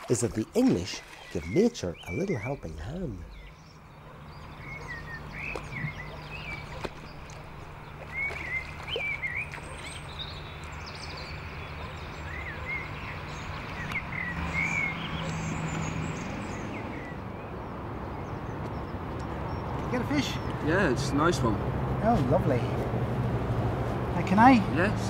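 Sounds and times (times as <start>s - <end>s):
birds chirping: 0.0s - 25.0s
outdoor background noise: 0.0s - 25.0s.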